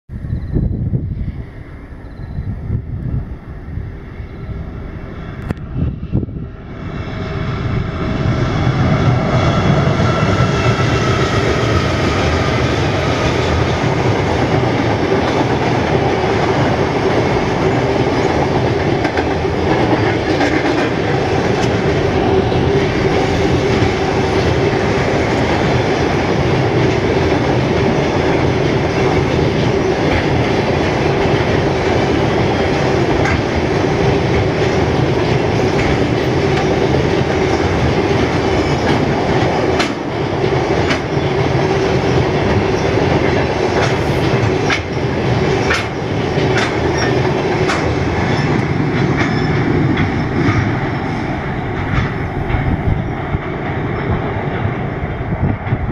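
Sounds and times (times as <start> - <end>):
freight train rumbling over bridge: 0.1 - 55.9
wind buffeting microphone: 0.1 - 55.9.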